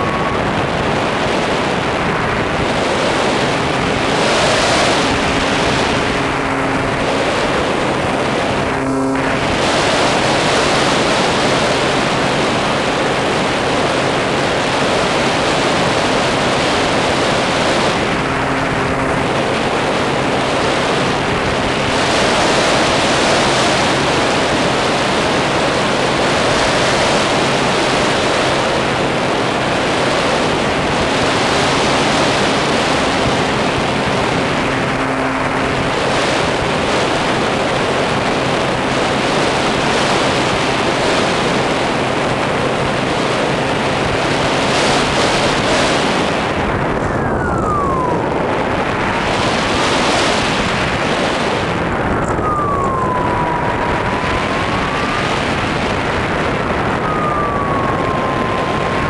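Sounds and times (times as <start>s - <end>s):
air rushing over microphone: 0.0s - 59.0s
faint motor and propeller hum: 0.0s - 59.0s.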